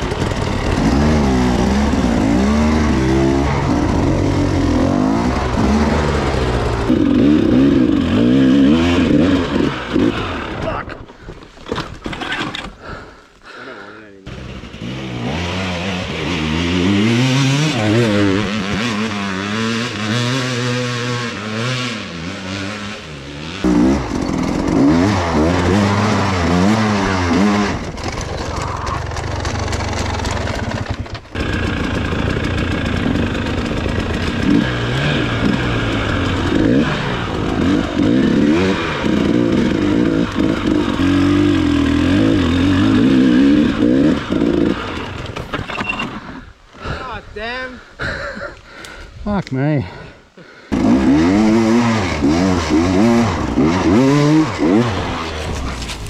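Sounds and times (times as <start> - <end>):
dirt bike engine revving: 0.0 - 10.9, 14.2 - 47.0, 49.8 - 56.0.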